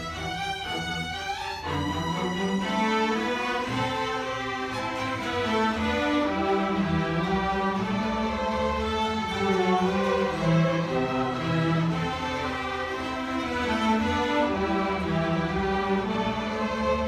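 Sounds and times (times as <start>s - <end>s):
string orchestra playing: 0.0s - 17.0s.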